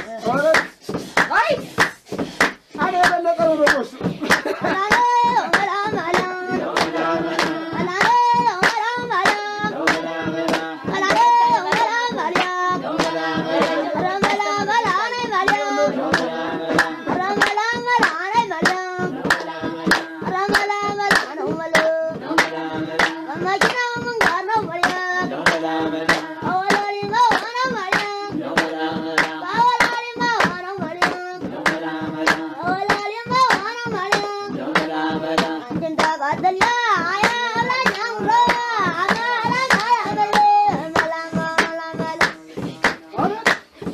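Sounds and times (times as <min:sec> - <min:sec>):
group of voices singing: 0:00.0 - 0:43.9
hand clapping: 0:00.0 - 0:43.9.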